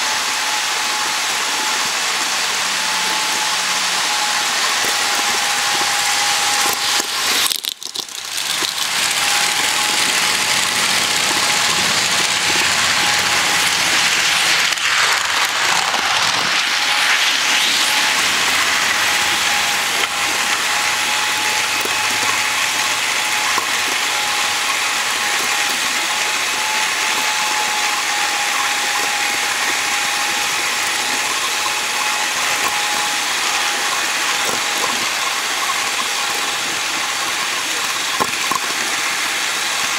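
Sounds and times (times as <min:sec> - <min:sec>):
constant high whine: 0:00.0 - 0:39.9
model train wheels rattling on track: 0:00.0 - 0:39.9
small electric motor whirring: 0:00.0 - 0:39.9.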